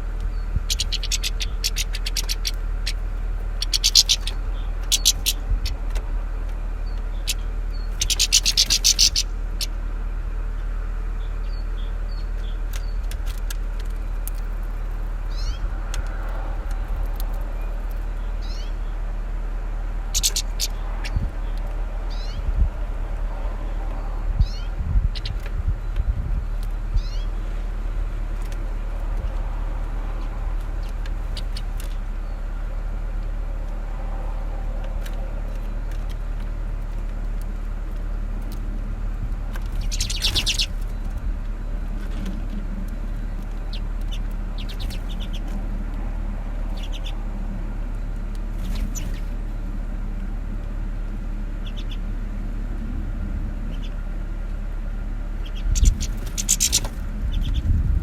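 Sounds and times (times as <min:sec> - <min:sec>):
finches twittering: 0:00.0 - 0:09.8, 0:10.6 - 0:19.1, 0:19.9 - 0:52.9, 0:53.5 - 0:57.8
low background rumble: 0:00.0 - 0:58.0.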